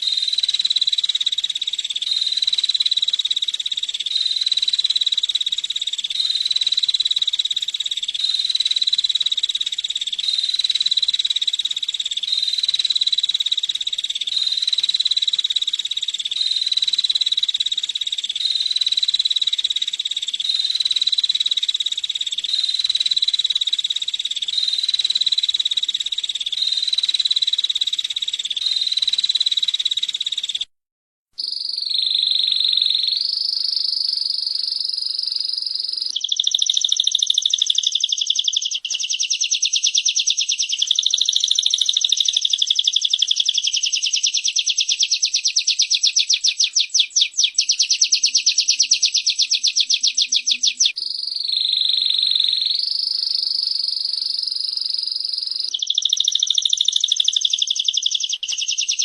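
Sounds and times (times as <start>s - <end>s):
songbirds buzzing trills: 0.0s - 30.6s, 31.8s - 59.0s.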